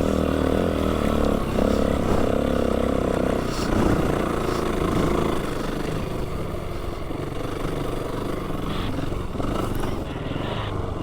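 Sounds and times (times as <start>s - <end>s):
vehicle engine running under load: 0.0s - 11.0s.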